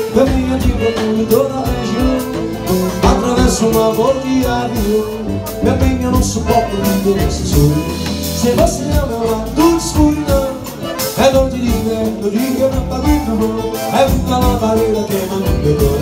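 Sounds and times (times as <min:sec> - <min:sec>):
accordion: 0:00.0 - 0:16.0
bass drum beat: 0:00.0 - 0:16.0
drum kit: 0:00.0 - 0:16.0
guitars: 0:00.0 - 0:16.0.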